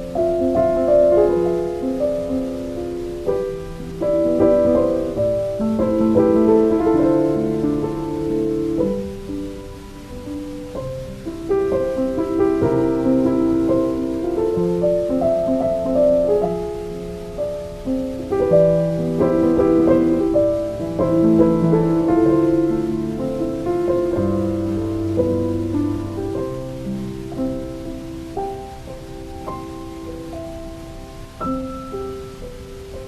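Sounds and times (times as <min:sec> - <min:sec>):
slow solo piano music: 0:00.0 - 0:33.0.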